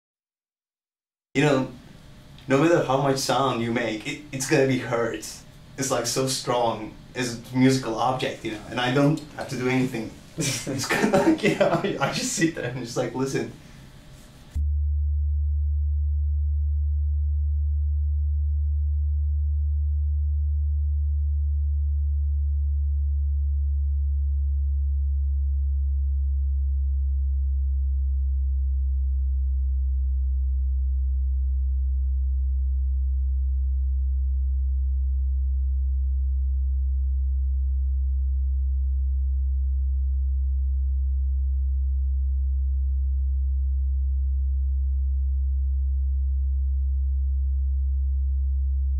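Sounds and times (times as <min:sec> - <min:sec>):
deep sine-wave drone: 0:01.4 - 0:48.9.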